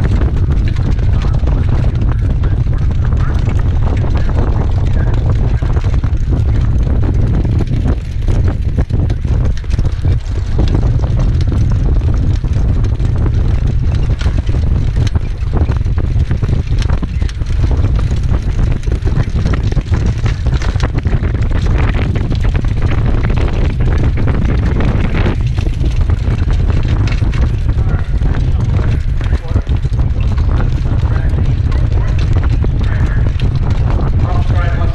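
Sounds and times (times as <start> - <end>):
cart wheels on dirt track: 0.0 - 34.9
horse hoofbeats: 0.0 - 34.9
wind buffeting microphone: 0.0 - 34.9.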